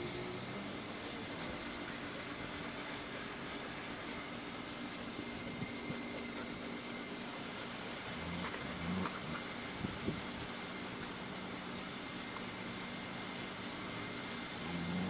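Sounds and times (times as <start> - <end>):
background hum and hiss: 0.0 - 15.0
faint high whine: 0.0 - 15.0.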